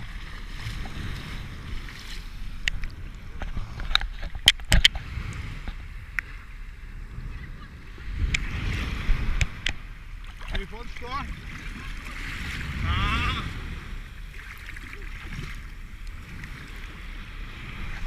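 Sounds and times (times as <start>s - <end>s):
sea waves washing: 0.0s - 18.0s
wind rumbling on microphone: 0.0s - 18.0s.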